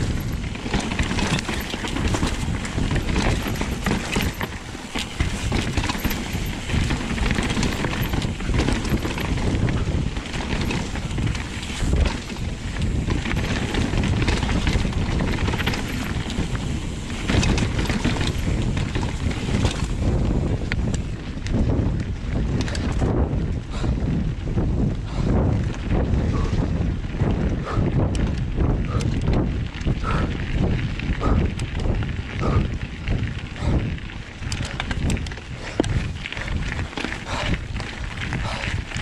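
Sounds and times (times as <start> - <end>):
bike knocking and rattling: 0.0 - 39.0
bike tyres rolling on dirt trail: 0.0 - 39.0
wind buffeting microphone: 0.0 - 39.0.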